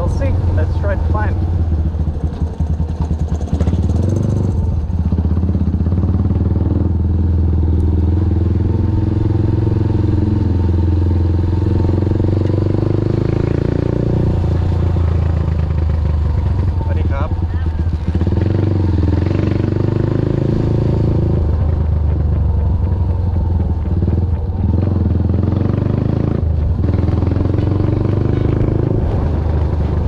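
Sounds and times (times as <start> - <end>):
motorcycle engine droning: 0.0 - 30.0.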